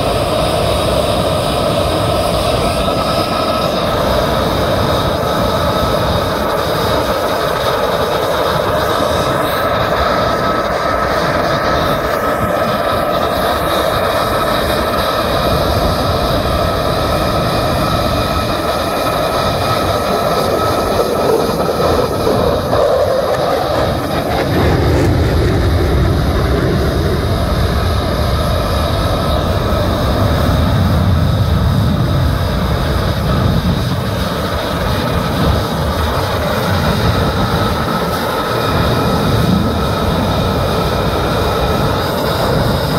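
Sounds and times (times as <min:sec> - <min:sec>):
jet engine rumble: 0:00.0 - 0:42.9
jet engines whining: 0:00.0 - 0:42.9.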